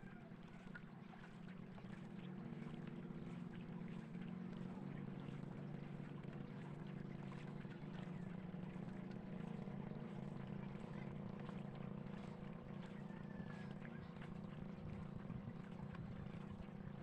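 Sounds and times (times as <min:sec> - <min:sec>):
paddle splashing water: 0:00.0 - 0:17.0
steady low hum: 0:01.0 - 0:17.0.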